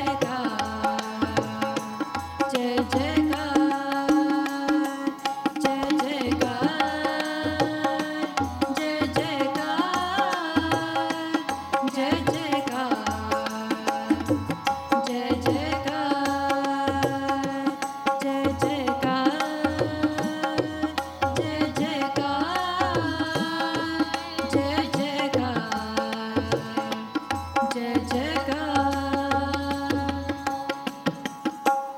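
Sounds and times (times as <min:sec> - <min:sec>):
harmonium chords: 0:00.0 - 0:31.9
tabla beat: 0:00.0 - 0:31.9.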